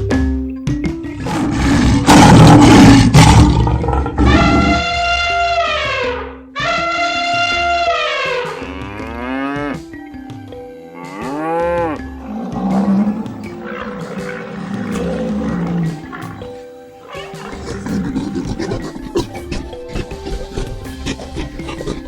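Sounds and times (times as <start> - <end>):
light background music: 0.0 - 22.0
bull mooing: 1.2 - 9.8, 11.0 - 22.0.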